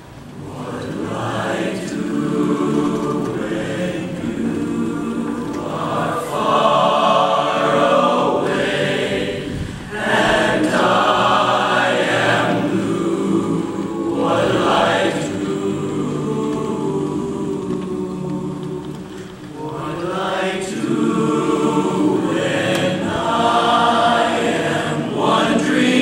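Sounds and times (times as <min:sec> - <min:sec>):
boys' chorus singing a cappella: 0:00.3 - 0:26.0.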